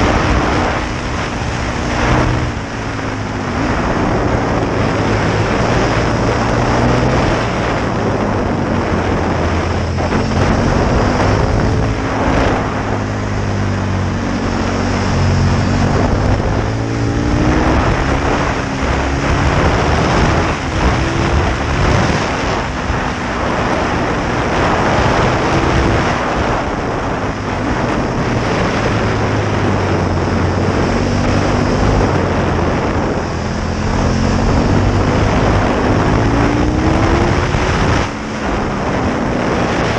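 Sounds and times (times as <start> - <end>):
motorcycle engine revving: 0.0 - 39.9
wind on microphone: 0.0 - 39.9.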